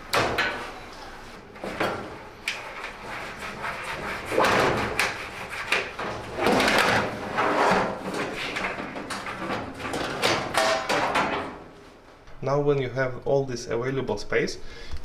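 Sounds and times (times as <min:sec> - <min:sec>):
dryer parts scraping and sliding: 0:00.0 - 0:12.1.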